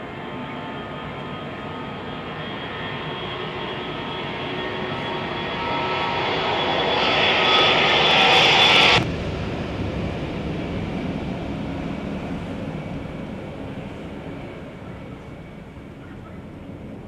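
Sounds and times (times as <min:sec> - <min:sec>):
jet engines roaring at takeoff: 0:00.0 - 0:17.0.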